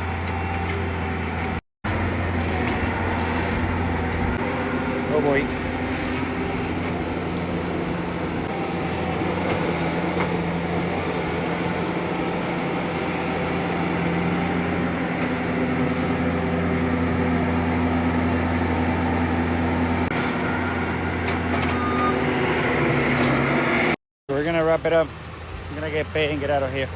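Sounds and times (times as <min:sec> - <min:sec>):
large diesel engine running: 0:00.0 - 0:26.9.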